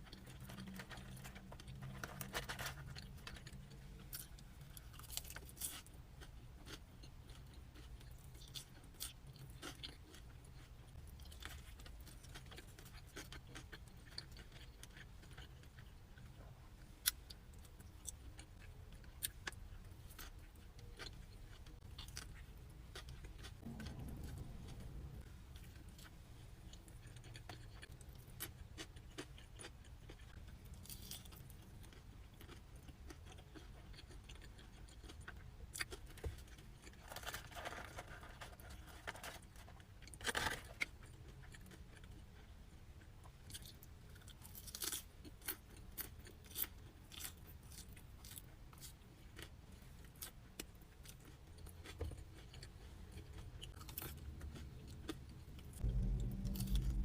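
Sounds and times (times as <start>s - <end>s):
chewing crunches: 0.0s - 16.4s, 17.0s - 26.1s, 26.7s - 57.0s.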